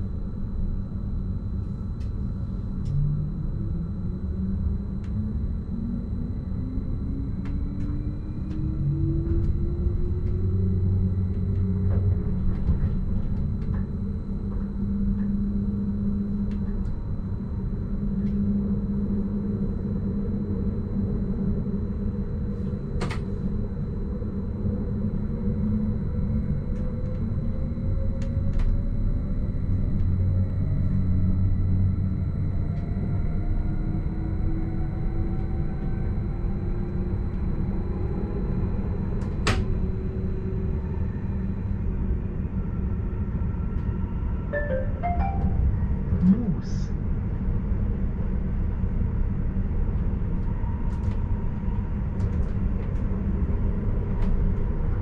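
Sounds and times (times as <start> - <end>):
traction drive whine: 0.0 - 55.0.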